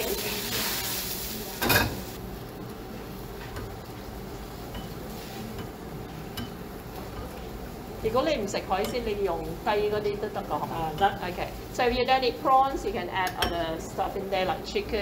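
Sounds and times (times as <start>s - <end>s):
sizzling in a wok: 0.0s - 15.0s.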